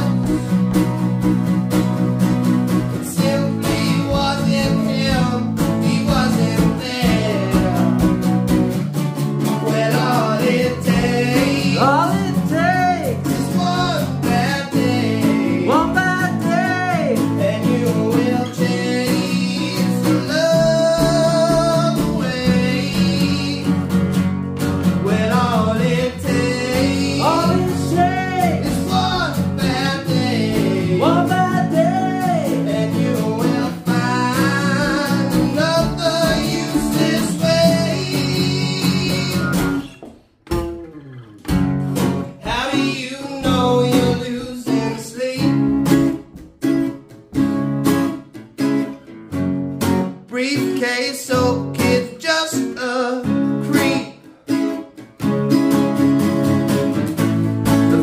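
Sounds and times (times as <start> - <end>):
acoustic guitars playing: 0.0 - 58.0.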